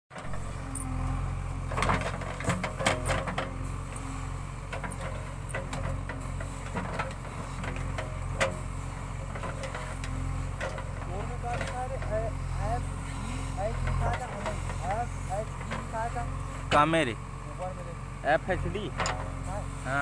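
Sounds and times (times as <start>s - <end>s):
diesel engine under load: 0.1s - 20.0s.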